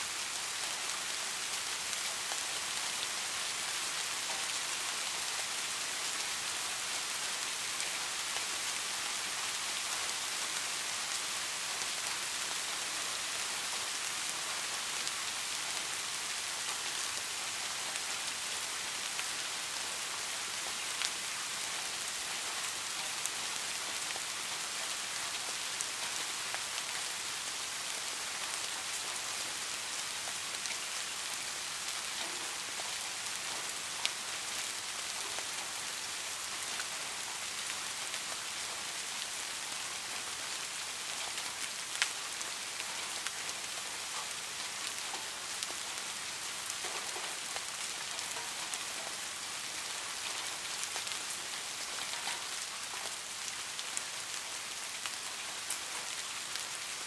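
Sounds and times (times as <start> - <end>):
rain falling on a roof: 0.0 - 57.0.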